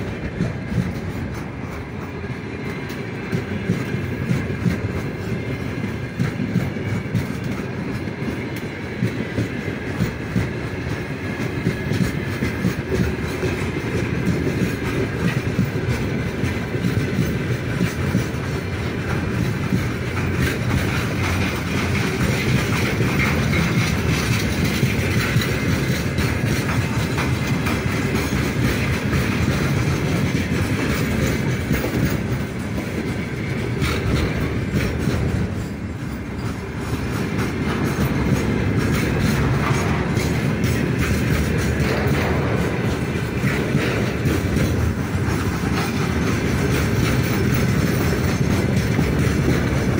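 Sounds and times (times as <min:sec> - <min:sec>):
freight train rumbling past: 0:00.0 - 0:49.9
wheels clattering over rail joints: 0:00.0 - 0:49.9.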